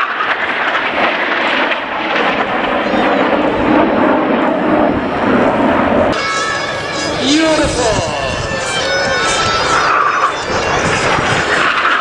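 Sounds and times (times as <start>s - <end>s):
jet fighters flying past: 0.0s - 12.0s.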